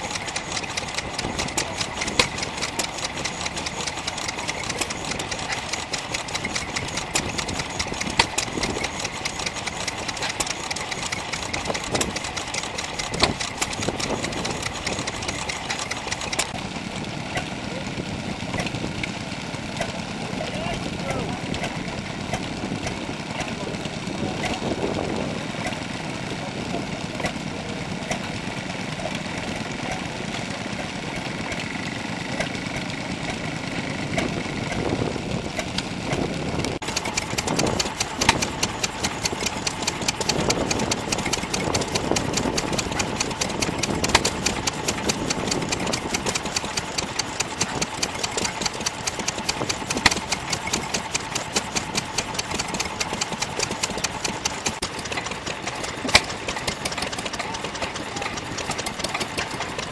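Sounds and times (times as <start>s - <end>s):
belt-driven stationary engine running: 0.0s - 59.9s
single-cylinder engine firing: 0.0s - 59.9s.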